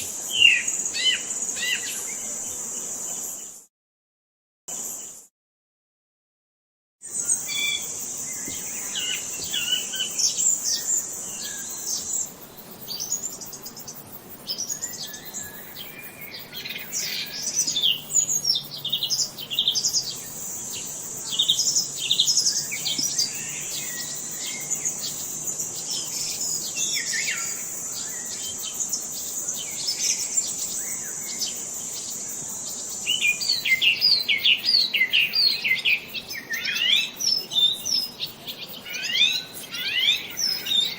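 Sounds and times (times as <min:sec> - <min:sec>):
high-pitched insect trill: 0:00.0 - 0:03.6, 0:07.0 - 0:40.9
songbirds chirping: 0:07.0 - 0:40.9.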